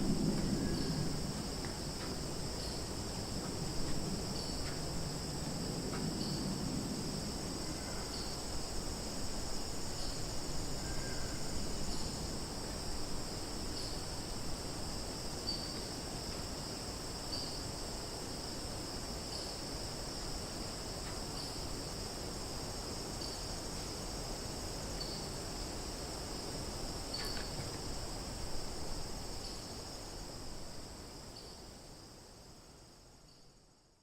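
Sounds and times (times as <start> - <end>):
short insect chirp: 0.0 - 5.3, 7.5 - 18.5, 19.2 - 34.0
high-pitched insect chorus: 0.0 - 34.0.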